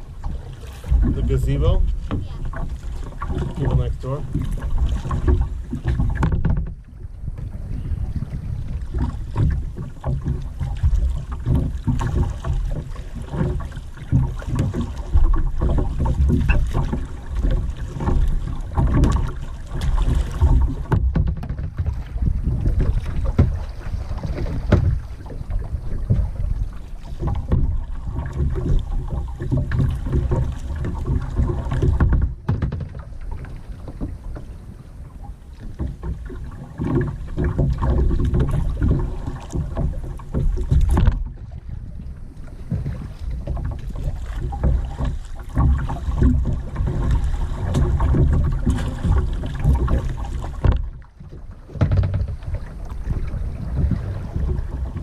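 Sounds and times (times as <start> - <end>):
paddle splashing water: 0.0 - 55.0
wind rumble on microphone: 0.0 - 55.0.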